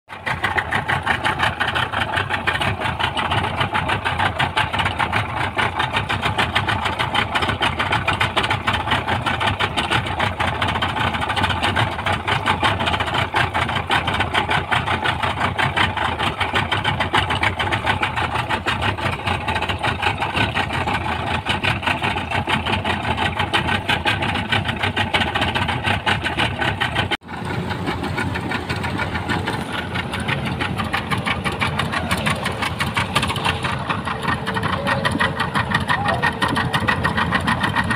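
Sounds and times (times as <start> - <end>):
speedboat engine running: 0.1 - 37.9.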